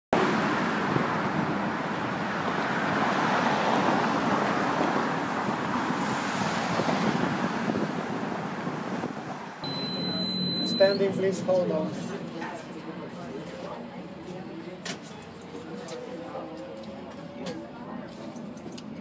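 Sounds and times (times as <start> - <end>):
traffic rush: 0.1 - 19.0
wind: 0.1 - 19.0.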